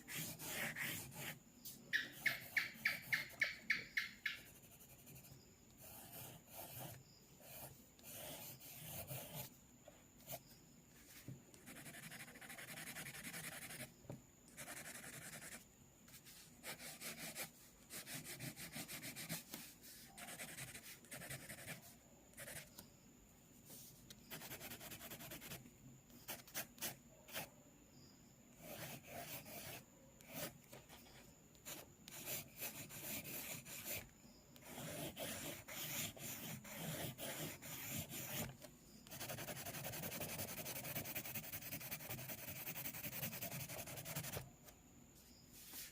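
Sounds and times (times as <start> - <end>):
pencil scratching on paper: 0.1 - 1.4, 2.1 - 9.6, 11.1 - 13.9, 14.6 - 22.7, 23.7 - 25.6, 26.2 - 27.5, 28.6 - 44.5.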